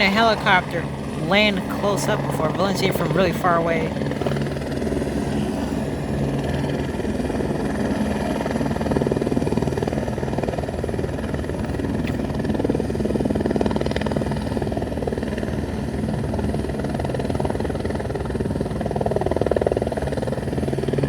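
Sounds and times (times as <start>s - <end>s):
turbine engine whine: 0.0s - 16.9s
helicopter rotor chopping: 0.0s - 21.0s.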